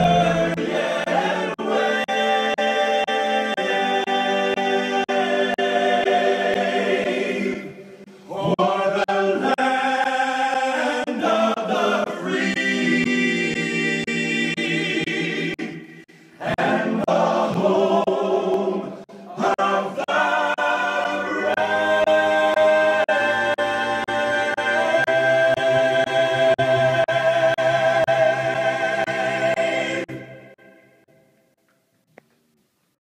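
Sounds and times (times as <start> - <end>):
choir singing: 0.0 - 30.7.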